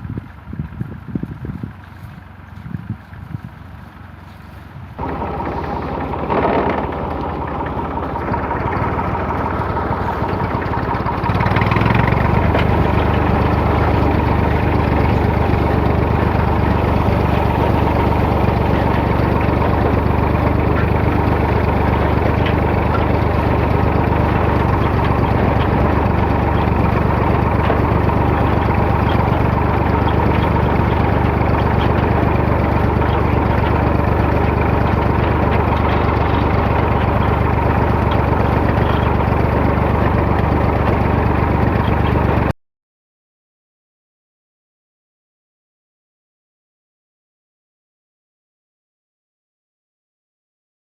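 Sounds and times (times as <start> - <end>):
tractor engine running: 0.0 - 42.6.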